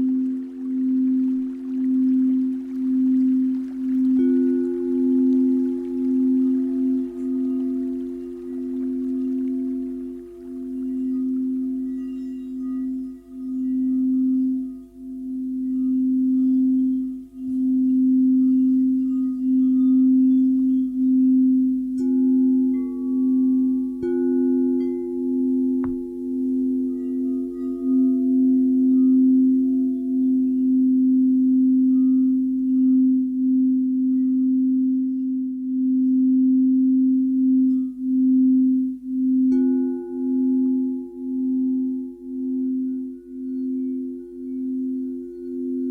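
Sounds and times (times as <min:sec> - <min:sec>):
singing bowls ringing: 0:00.0 - 0:45.9.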